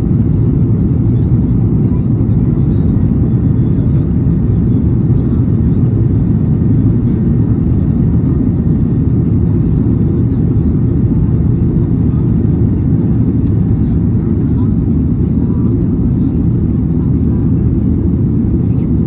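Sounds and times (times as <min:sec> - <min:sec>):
jet engines droning: 0:00.0 - 0:19.0.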